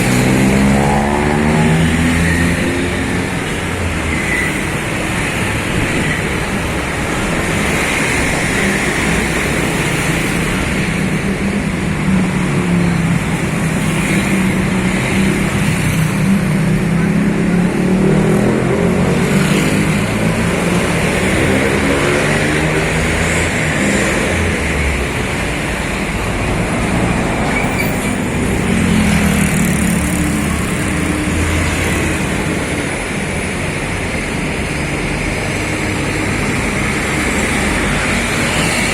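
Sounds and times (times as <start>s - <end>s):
heavy vehicles driving past: 0.0s - 38.9s.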